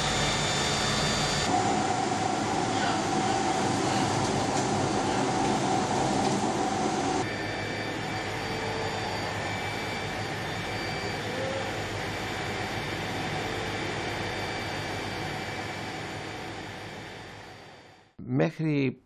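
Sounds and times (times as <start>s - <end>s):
mill machinery running: 0.0s - 17.3s.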